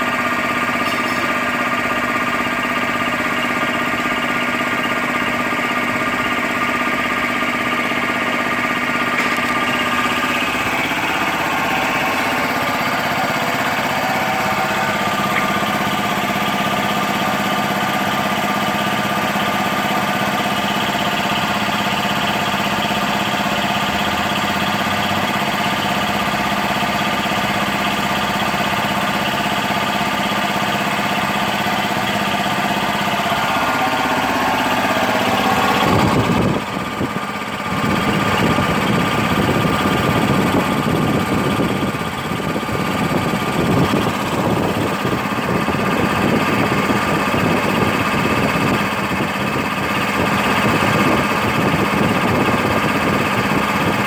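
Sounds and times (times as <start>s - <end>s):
air compressor running: 0.0s - 54.0s.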